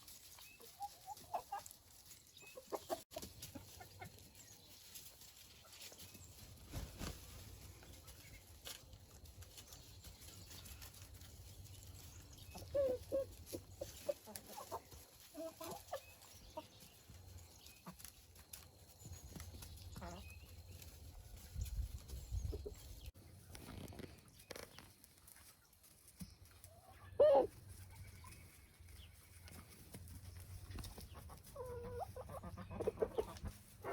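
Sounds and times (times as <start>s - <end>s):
chickens clucking: 0.0s - 23.5s, 24.5s - 33.9s.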